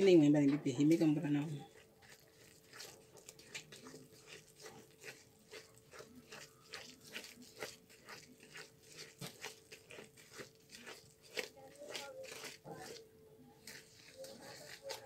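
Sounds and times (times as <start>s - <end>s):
spoon scraping batter in bowl: 0.0s - 15.0s.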